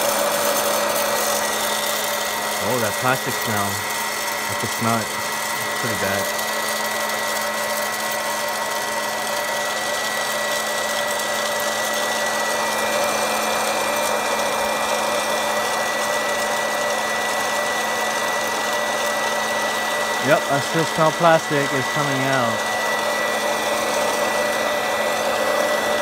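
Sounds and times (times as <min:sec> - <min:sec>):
popcorn popper fan whirring: 0:00.0 - 0:26.0.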